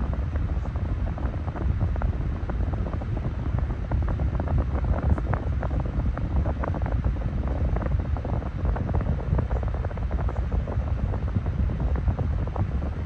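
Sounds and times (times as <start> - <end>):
desk fan air rush: 0.0 - 13.0
wind buffeting microphone: 0.0 - 13.0.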